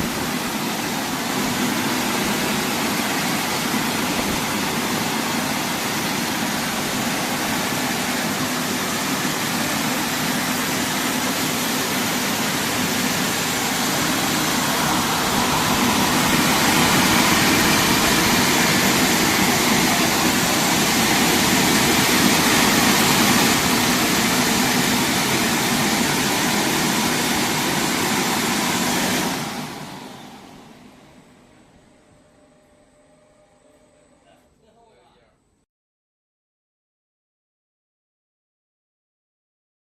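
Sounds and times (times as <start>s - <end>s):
car wash motor and water spray: 0.0s - 34.3s.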